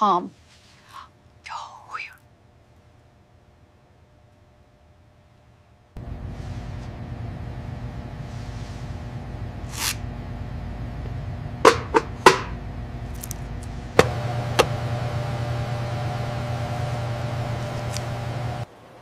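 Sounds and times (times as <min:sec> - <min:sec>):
equipment hum: 0:02.3 - 0:19.0.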